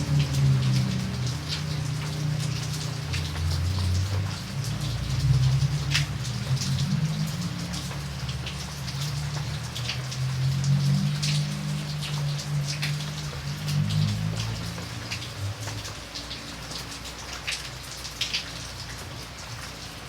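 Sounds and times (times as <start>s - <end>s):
low rain rumble: 0.0s - 20.0s
raindrops ticking on a surface: 0.0s - 20.0s.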